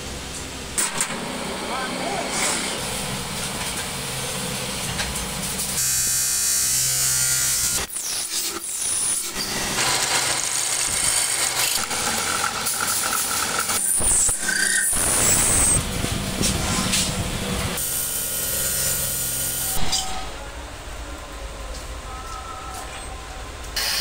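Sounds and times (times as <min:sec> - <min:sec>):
high machine whine: 0:00.0 - 0:24.0.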